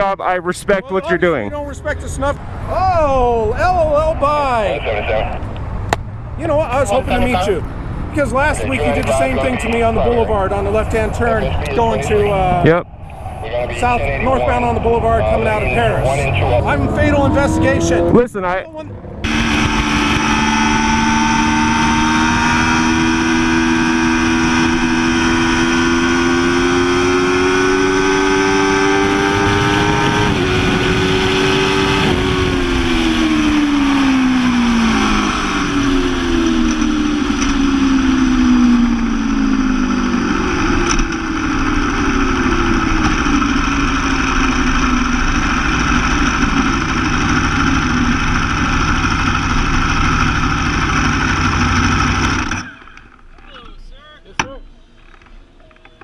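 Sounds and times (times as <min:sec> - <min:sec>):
road and wind noise: 0:00.0 - 0:56.0
motorcycle engine revving: 0:05.6 - 0:53.4.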